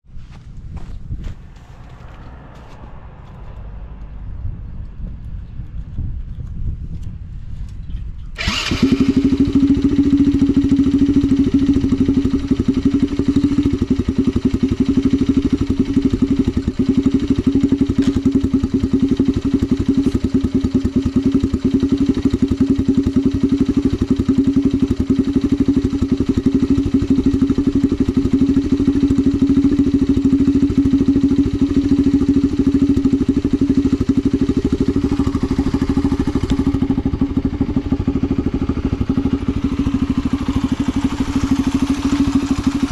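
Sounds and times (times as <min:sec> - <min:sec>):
small engine starting and idling: 0:07.8 - 0:42.9.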